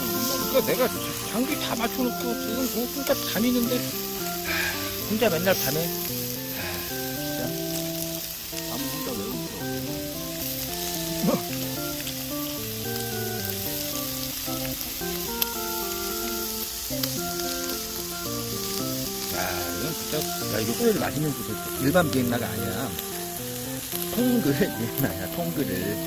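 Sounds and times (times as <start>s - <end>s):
background music: 0.0s - 26.0s
meat sizzling on griddle: 0.0s - 26.0s.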